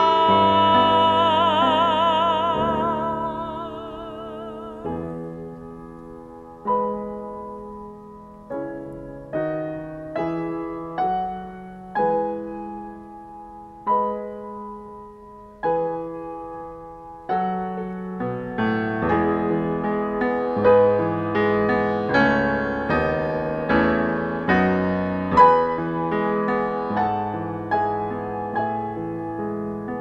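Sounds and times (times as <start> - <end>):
grand piano playing chords: 0.0 - 30.0.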